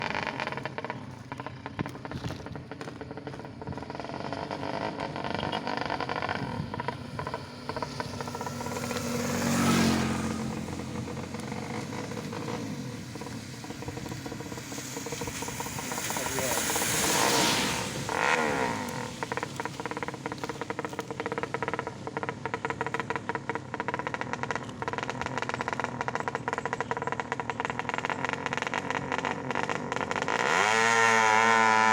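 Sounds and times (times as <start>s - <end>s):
motorcycle engine clattering and revving: 0.0s - 31.9s.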